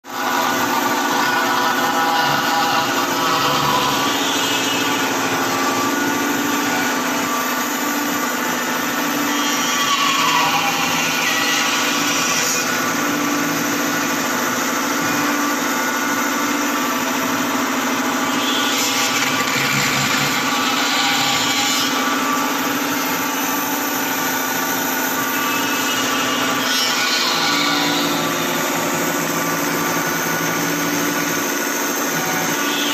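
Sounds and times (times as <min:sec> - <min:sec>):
machine hum: 0:00.1 - 0:32.9
welding arc sizzling and crackling: 0:00.2 - 0:32.9.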